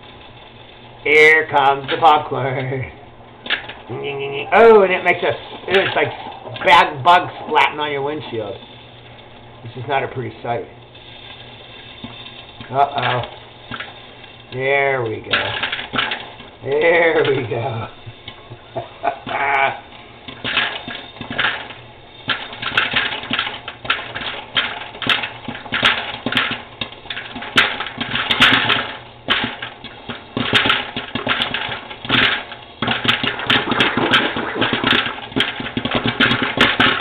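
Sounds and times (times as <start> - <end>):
popcorn popping: 0.0 - 37.0
popper humming: 0.7 - 37.0.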